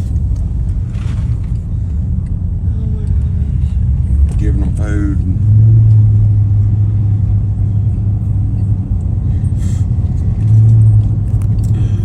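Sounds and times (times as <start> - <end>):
car interior engine and road drone: 0.0 - 12.0.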